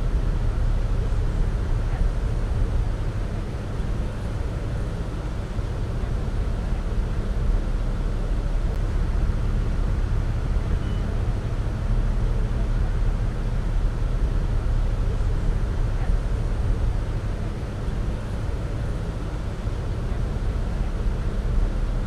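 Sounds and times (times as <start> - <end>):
boat engine drone: 0.0 - 22.0
water rushing around hull: 0.0 - 22.0.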